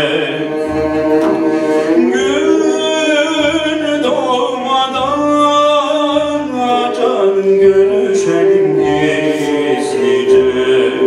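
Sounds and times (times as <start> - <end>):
instrumental accompaniment: 0.0 - 11.0
person singing folk song: 0.0 - 11.0.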